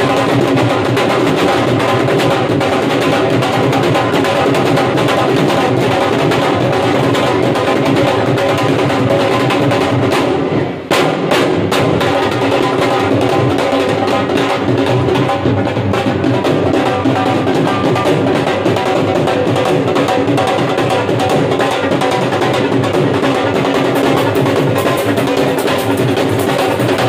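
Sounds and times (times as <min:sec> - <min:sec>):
dhol drums played fast: 0:00.0 - 0:27.0.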